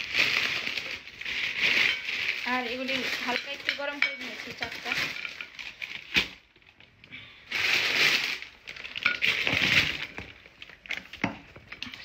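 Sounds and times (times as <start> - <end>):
bag crinkling: 0.0 - 12.0.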